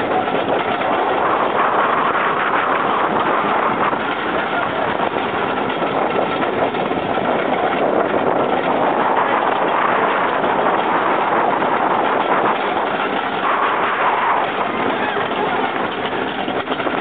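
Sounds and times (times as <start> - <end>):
roller coaster rushing along track: 0.0 - 17.0
wind on microphone: 0.0 - 17.0.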